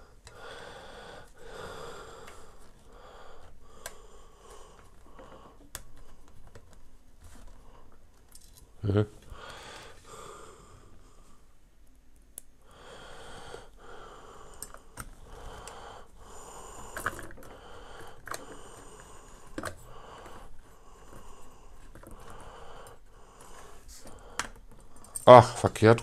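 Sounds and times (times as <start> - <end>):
person breathing: 0.0 - 6.4, 9.2 - 11.6, 12.6 - 26.0.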